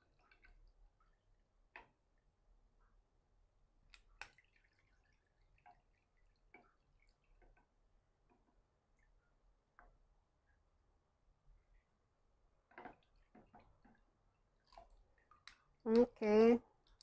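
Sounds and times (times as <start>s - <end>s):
water drips: 0.0s - 17.0s.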